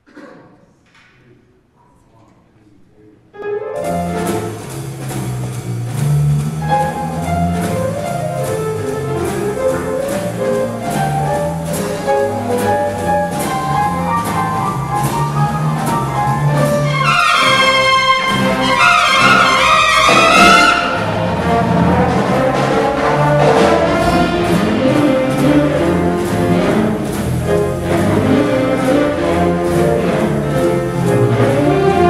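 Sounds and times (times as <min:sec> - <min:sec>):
jazz piano: 0:03.4 - 0:32.0
drum kit cymbal beat: 0:03.8 - 0:32.0.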